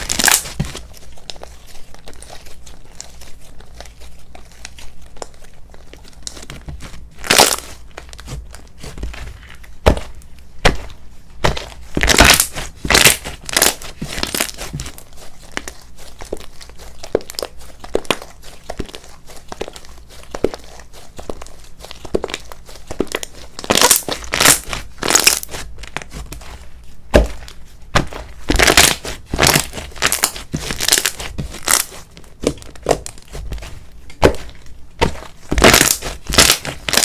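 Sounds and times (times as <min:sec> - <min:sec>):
slime squished by hand: 0:00.0 - 0:37.0.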